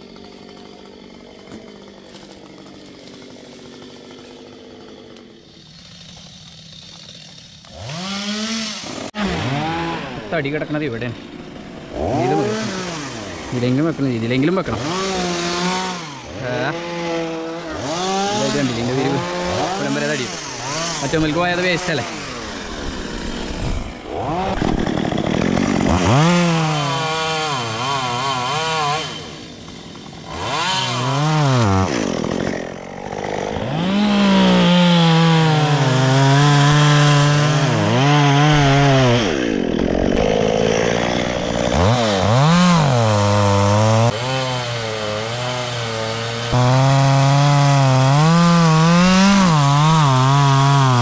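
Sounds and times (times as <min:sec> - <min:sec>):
chainsaw revving and cutting wood: 0:00.0 - 0:51.0.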